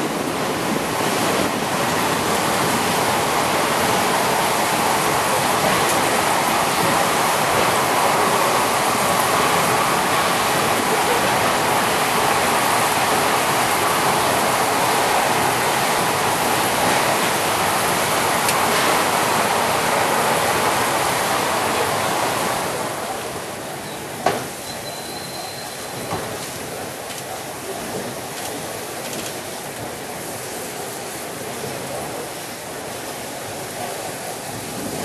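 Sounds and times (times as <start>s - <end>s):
cable car rushing on rails: 0.0s - 35.0s.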